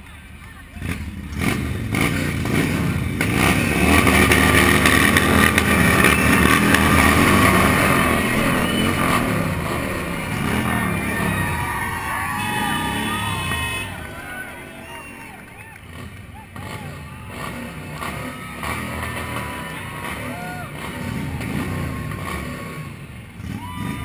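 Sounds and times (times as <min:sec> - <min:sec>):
motorcycle engine revving: 0:00.8 - 0:24.0.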